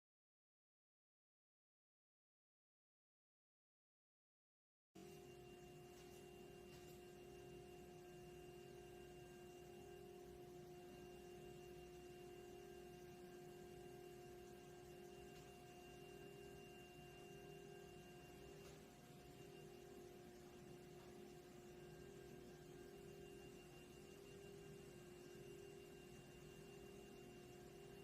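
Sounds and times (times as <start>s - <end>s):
faint hum of held tones: 5.0s - 28.0s.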